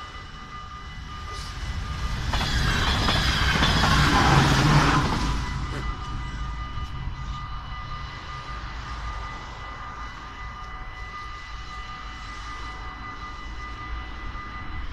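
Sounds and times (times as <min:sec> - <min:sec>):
level crossing warning bells: 0:00.0 - 0:14.9.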